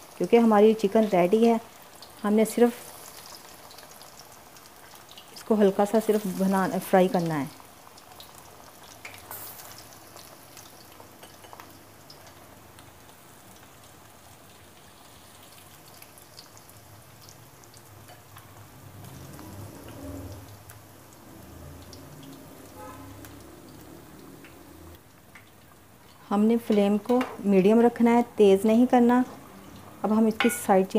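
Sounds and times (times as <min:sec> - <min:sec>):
chicken deep-frying in oil: 0:00.0 - 0:30.9.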